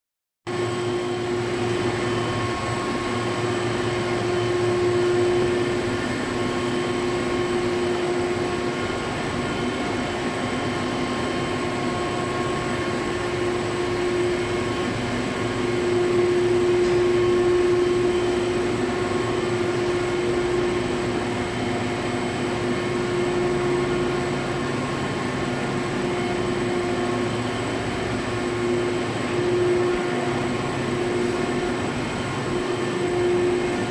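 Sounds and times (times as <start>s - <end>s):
machine mechanical hum: 0.5s - 33.9s
steady machine tones: 0.5s - 33.9s.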